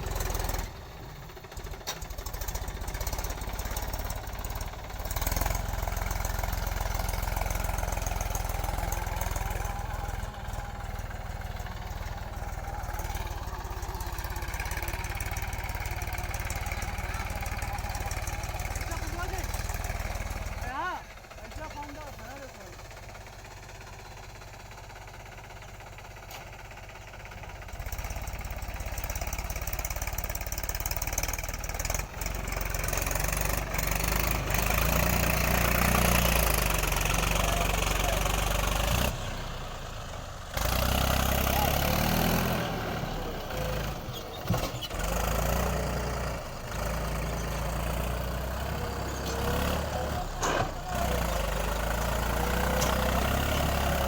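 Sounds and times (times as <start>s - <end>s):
tractor diesel engine working: 0.0s - 54.0s.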